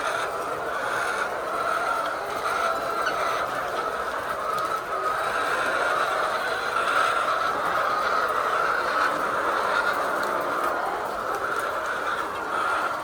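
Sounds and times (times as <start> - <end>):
flock of hens calling: 0.0 - 13.0.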